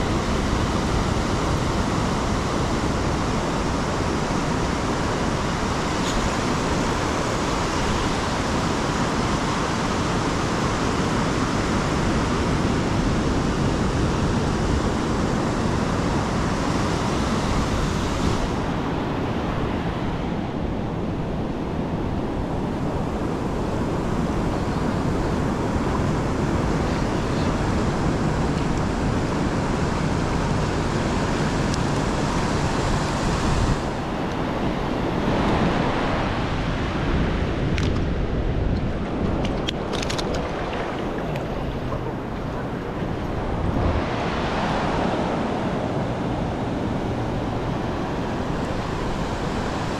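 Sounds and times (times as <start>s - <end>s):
ocean surf breaking: 0.0s - 49.9s
wind rumbling on microphone: 0.0s - 49.9s.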